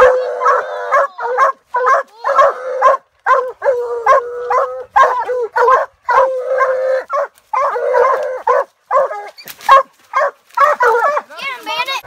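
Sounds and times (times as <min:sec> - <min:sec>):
hounds baying and barking: 0:00.0 - 0:11.6.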